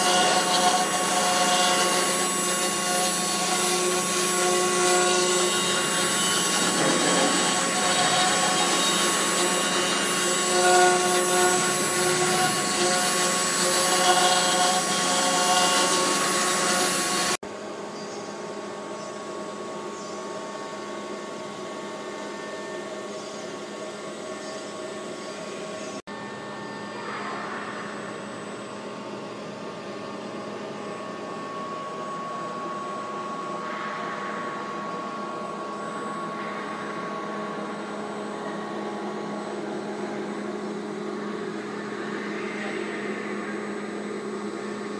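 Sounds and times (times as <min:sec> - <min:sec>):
router spindle motor whine: 0:00.0 - 0:44.9.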